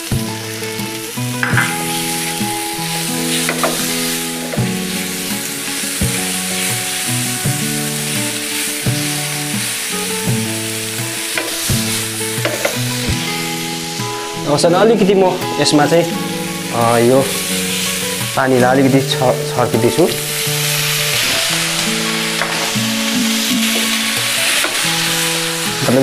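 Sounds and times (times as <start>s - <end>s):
background music: 0.0s - 26.0s
food sizzling in a pan: 0.0s - 26.0s.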